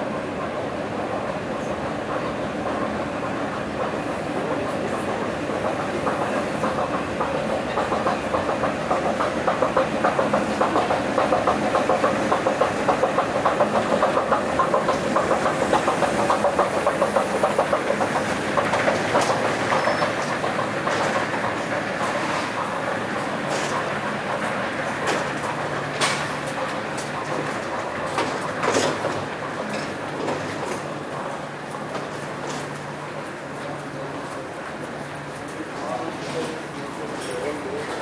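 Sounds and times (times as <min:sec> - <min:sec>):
escalator mechanical clatter: 0:01.6 - 0:38.0.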